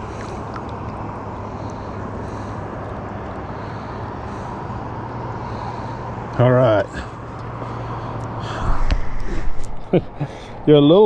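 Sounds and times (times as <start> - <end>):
steady engine drone: 0.0 - 11.0.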